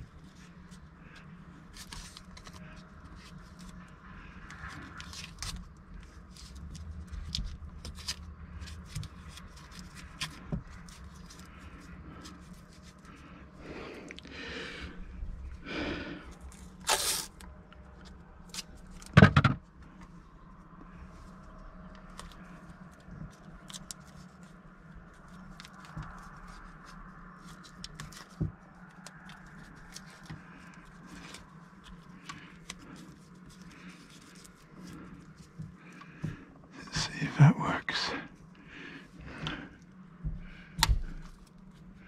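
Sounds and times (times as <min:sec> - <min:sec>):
cable handling scraping and rustling: 0:00.0 - 0:14.2, 0:16.3 - 0:37.2, 0:38.3 - 0:42.0.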